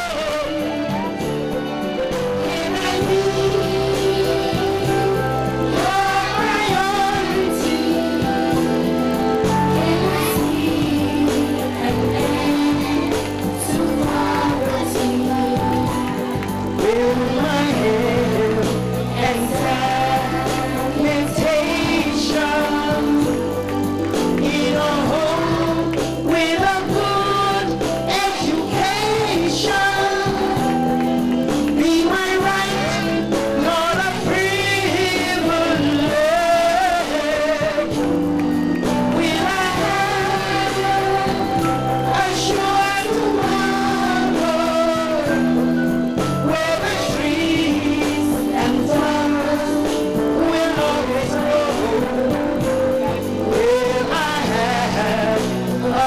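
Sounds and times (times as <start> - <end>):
amplified backing music: 0.0 - 56.0
children singing along: 0.0 - 56.0
woman singing into microphone: 2.1 - 31.1, 31.7 - 56.0.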